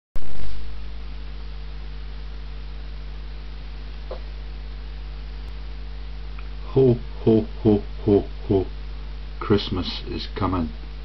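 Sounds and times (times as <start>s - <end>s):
electrical mains hum: 0.2s - 11.0s.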